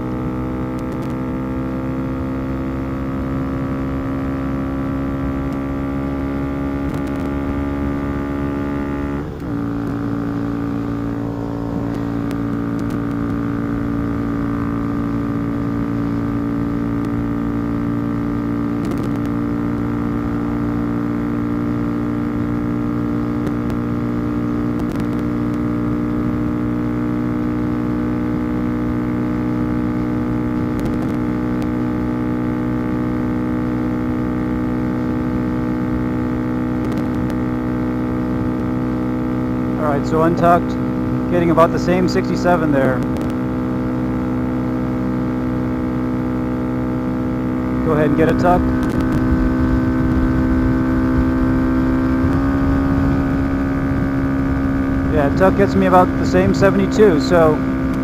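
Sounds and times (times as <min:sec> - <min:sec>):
motorcycle engine at full throttle: 0:00.0 - 0:58.0.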